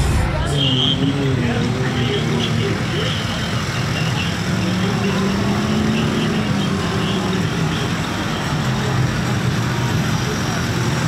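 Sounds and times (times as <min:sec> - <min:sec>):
off-road vehicle engine revving: 0:00.5 - 0:11.0.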